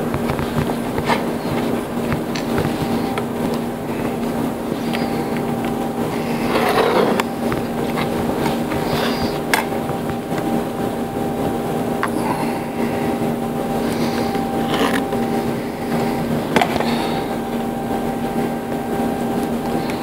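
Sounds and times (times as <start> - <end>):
electric sander humming: 0.0 - 20.0.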